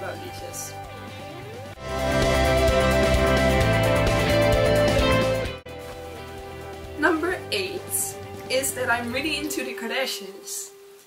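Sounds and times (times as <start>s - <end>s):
background music: 0.0s - 10.7s.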